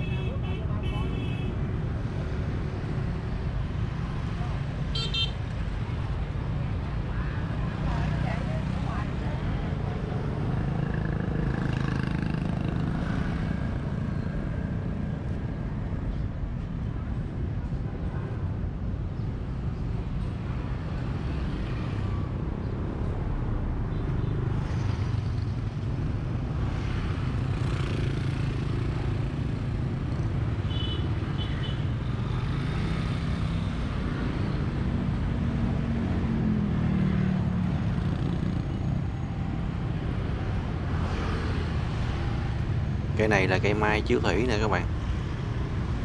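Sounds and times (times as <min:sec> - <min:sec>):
passing motorbikes and cars: 0:00.0 - 0:46.0.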